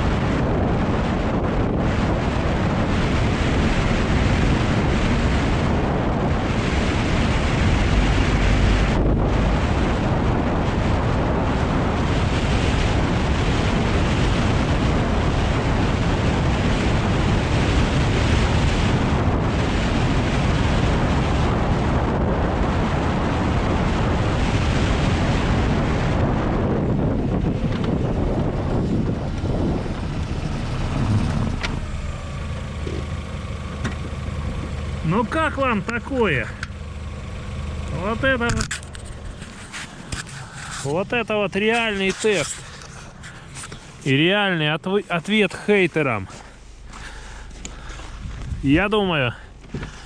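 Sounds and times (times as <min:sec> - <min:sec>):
suspension working over bumps: 0:00.0 - 0:50.0
tyre and road rumble: 0:00.0 - 0:50.0
wind buffeting microphone: 0:00.0 - 0:50.0.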